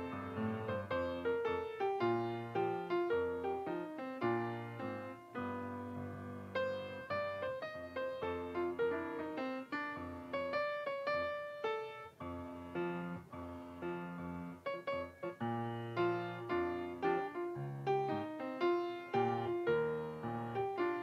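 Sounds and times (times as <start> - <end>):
solo piano: 0.0 - 21.0.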